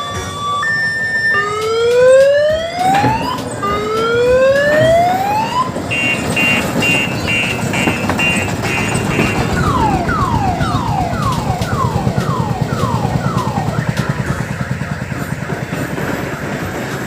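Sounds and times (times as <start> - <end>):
electronic siren: 0.0 - 17.0.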